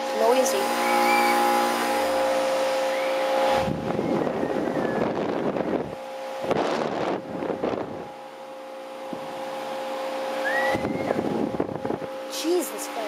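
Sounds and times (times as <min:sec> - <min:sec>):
condensing unit humming: 0:00.0 - 0:13.0
fan air buffeting microphone: 0:00.0 - 0:13.0.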